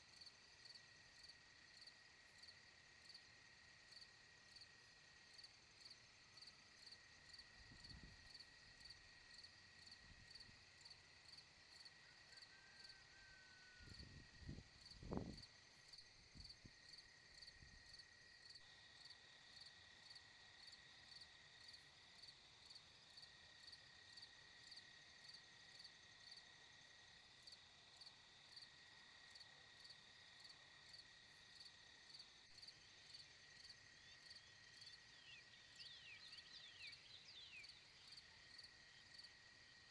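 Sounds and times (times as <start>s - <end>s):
faint insect chirping: 0.0s - 39.9s.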